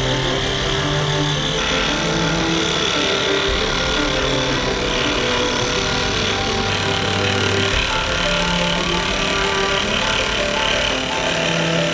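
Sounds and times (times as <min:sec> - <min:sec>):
scroll saw cutting wood: 0:00.0 - 0:11.9.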